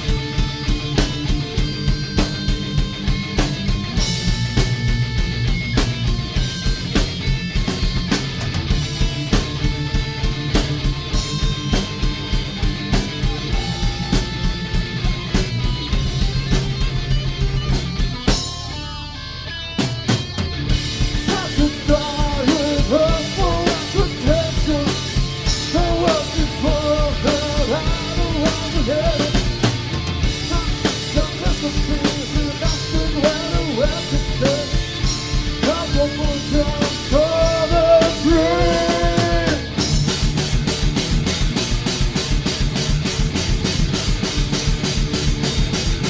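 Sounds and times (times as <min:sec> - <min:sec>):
drum kit beat: 0:00.0 - 0:19.1, 0:19.7 - 0:46.0
rock band playing: 0:00.0 - 0:46.0.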